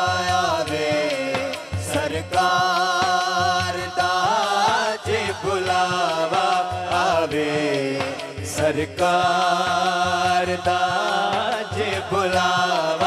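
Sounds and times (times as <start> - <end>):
men singing devotional song: 0.0 - 13.0.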